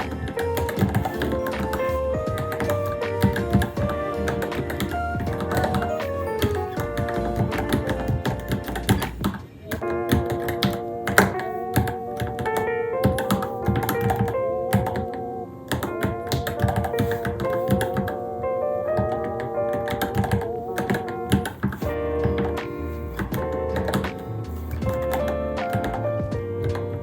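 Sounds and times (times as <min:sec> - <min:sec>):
keyboard keystrokes: 0:00.0 - 0:18.2, 0:18.9 - 0:27.0
background music wavering melody: 0:00.0 - 0:27.0.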